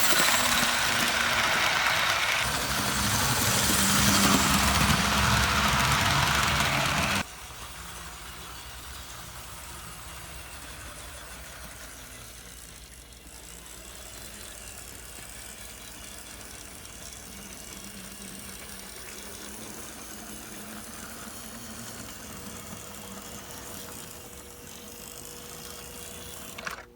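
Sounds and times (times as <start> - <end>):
model train motor whirring: 0.0 - 26.9.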